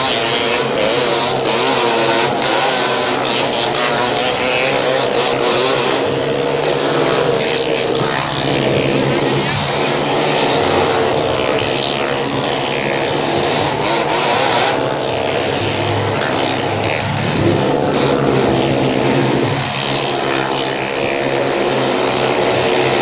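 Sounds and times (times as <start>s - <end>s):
motorcycle engines droning: 0.0s - 23.0s.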